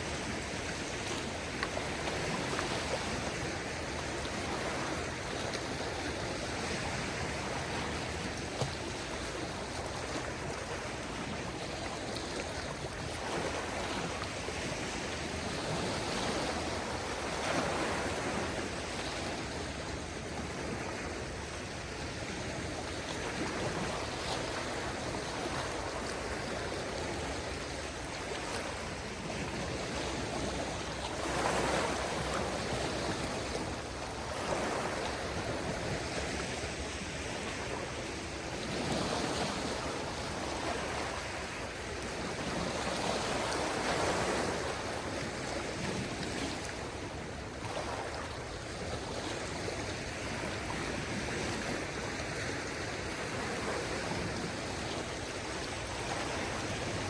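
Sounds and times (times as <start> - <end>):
small waves washing onto shore: 0.0 - 57.0.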